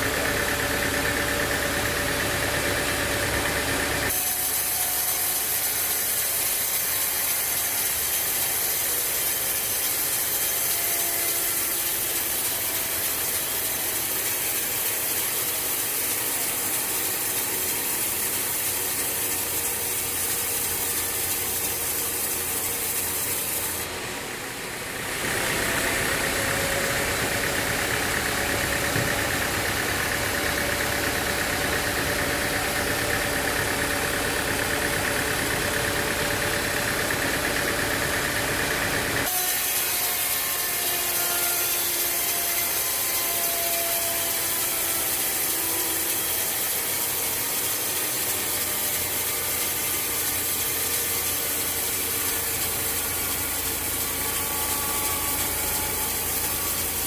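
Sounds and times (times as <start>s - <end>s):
saw cutting timber: 0.0s - 57.0s
sawmill machinery running: 0.0s - 57.0s.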